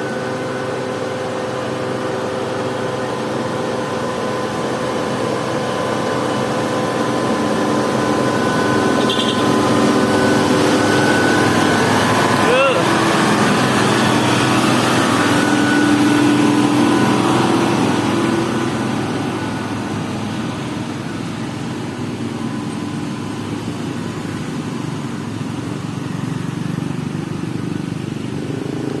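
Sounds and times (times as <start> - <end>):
steady traffic noise: 0.0 - 29.0
vehicle engine passing: 4.4 - 29.0.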